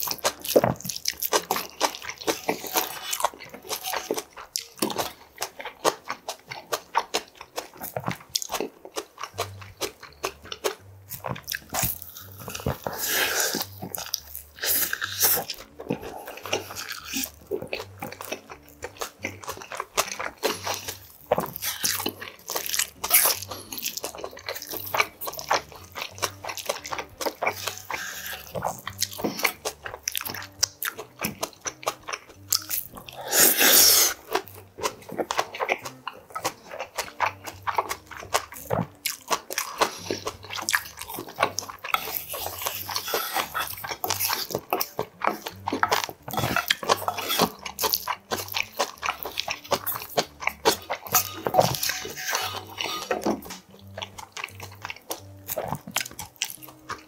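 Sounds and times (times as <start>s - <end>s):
close chewing with wet crunchy clicks: 0.0s - 57.0s.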